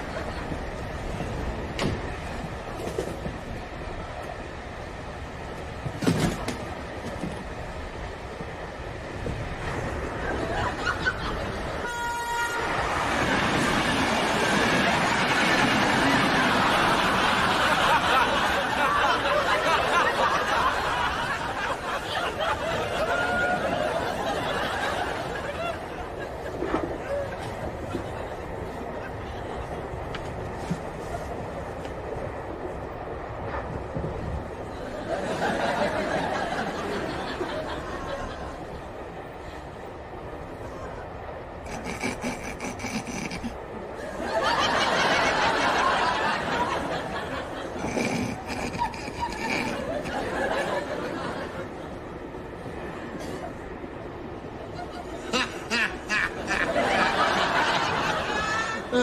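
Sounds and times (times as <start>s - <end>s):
crowd laughing and chattering: 0.0s - 59.0s.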